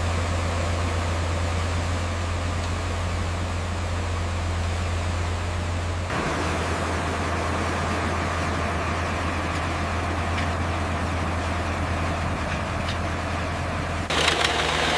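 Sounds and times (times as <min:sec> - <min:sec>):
heavy machinery engine drone: 0:00.0 - 0:14.9.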